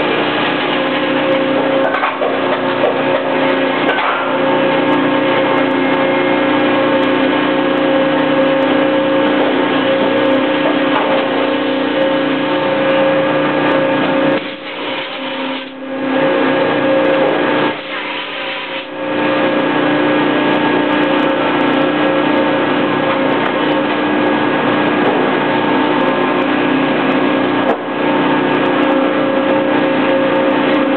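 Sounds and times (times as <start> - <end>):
industrial machinery humming: 0.0 - 30.9.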